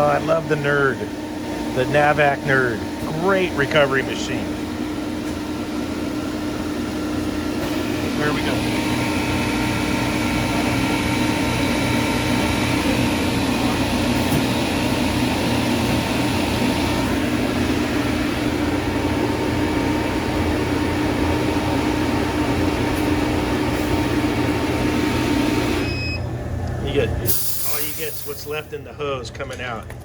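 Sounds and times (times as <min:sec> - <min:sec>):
compressor humming: 0:00.0 - 0:30.0.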